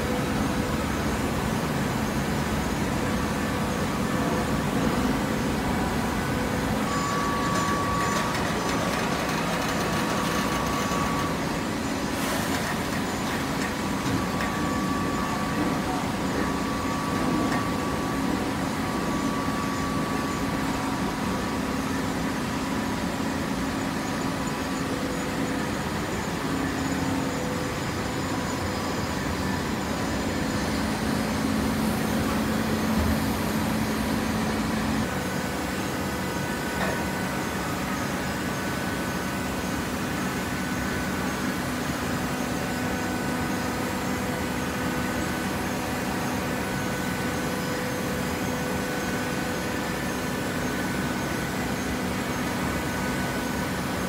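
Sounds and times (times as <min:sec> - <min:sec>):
industrial machine hum: 0:00.0 - 0:54.0.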